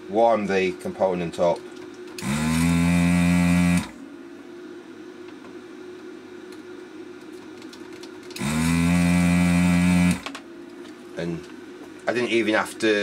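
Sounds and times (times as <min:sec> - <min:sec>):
desoldering pump humming: 0:00.0 - 0:13.0
faint steady hum: 0:00.0 - 0:13.0.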